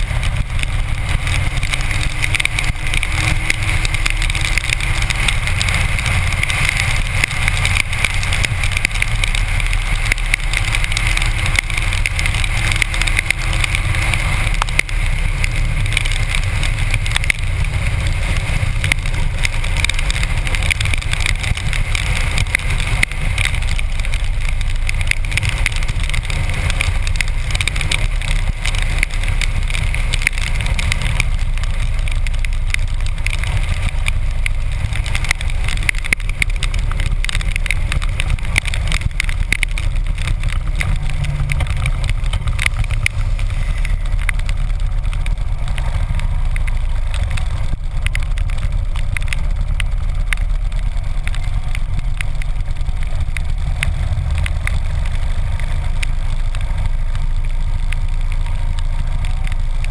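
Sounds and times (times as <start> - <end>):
motorcycle engine running: 0.0 - 59.9
raindrops ticking on camera: 0.0 - 59.9
wind and rain rushing: 0.0 - 59.9.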